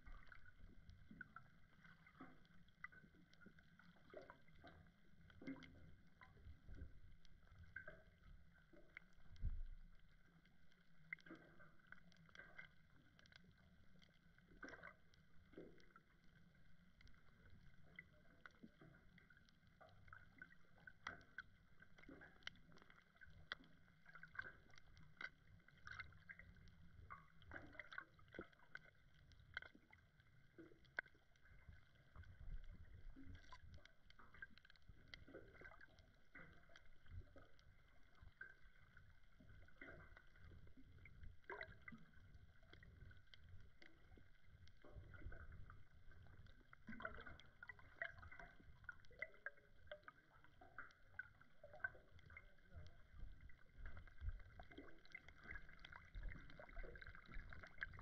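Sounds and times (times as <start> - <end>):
muffled underwater rumble: 0.0 - 58.0
small underwater clicks: 0.0 - 58.0.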